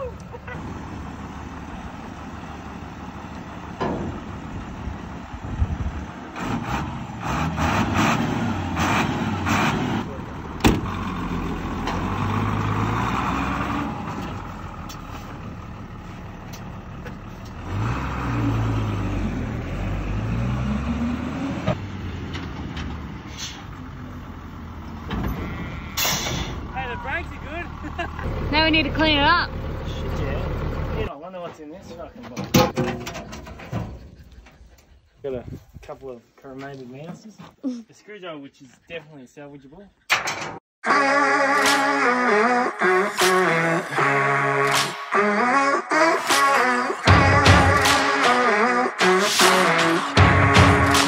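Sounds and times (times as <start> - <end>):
diesel truck engine revving: 0.0 - 31.1, 40.9 - 51.0.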